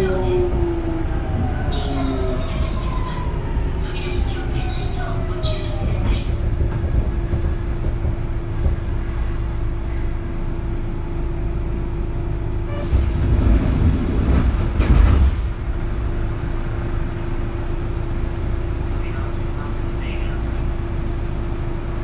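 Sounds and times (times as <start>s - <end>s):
wheels rumbling on track: 0.0s - 22.0s.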